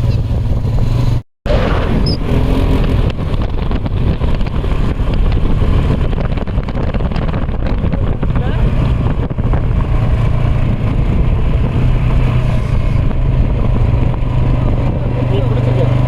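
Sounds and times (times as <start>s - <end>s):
motor vehicle running: 0.0s - 16.0s
wind noise on microphone: 0.0s - 16.0s.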